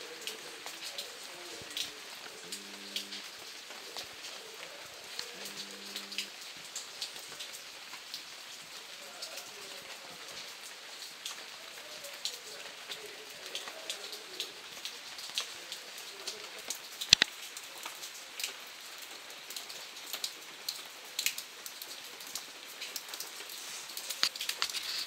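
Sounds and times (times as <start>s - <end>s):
raindrops tapping: 0.0s - 25.0s.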